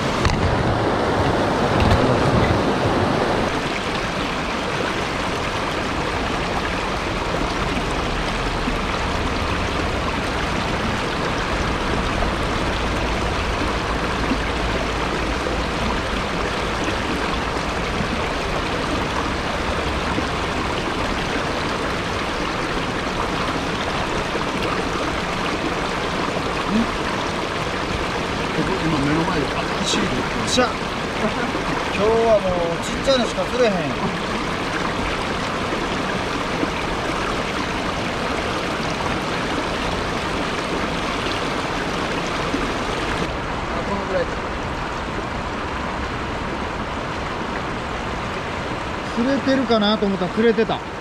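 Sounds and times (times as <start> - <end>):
stream running over rocks: 0.0 - 51.0.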